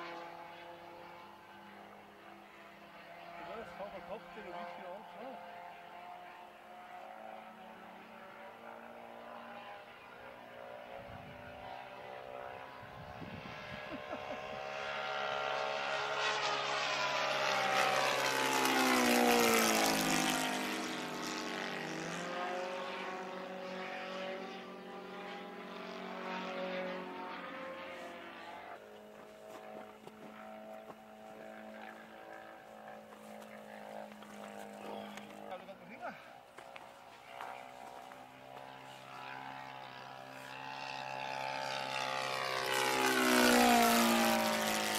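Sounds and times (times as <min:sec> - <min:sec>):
model plane engine and propeller: 0:00.0 - 0:44.9.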